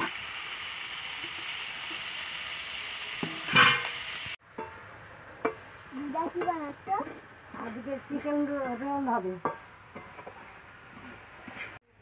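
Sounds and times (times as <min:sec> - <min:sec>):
food sizzling in oil: 0:00.0 - 0:11.8.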